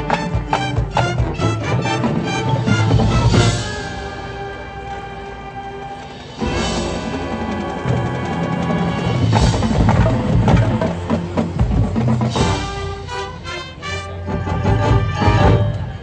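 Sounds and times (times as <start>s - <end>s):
brass chords: 0.0s - 16.0s
marching drums: 0.0s - 16.0s
percussion: 0.0s - 16.0s.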